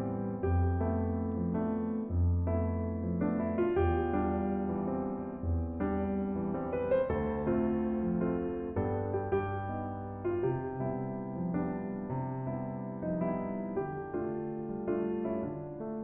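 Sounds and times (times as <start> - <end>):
piano notes: 0.0 - 16.0.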